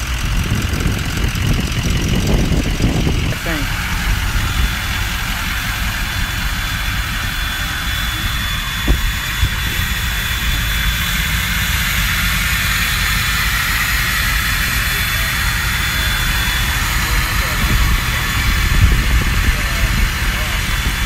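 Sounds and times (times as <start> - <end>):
diesel van engine idling: 0.0 - 21.0.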